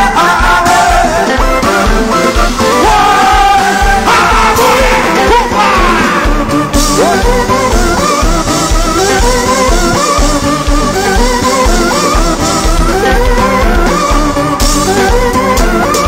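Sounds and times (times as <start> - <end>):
electronic keyboard: 0.0 - 16.0
person singing: 0.0 - 16.0
thumping bass beat: 0.0 - 16.0.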